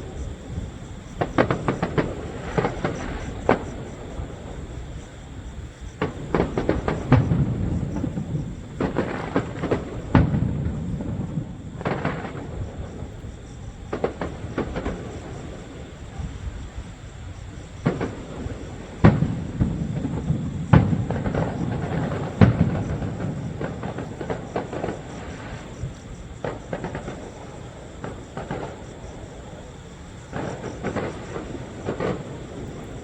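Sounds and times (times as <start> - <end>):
fireworks bangs: 0.0 - 33.0
fireworks crackling and popping: 0.0 - 33.0.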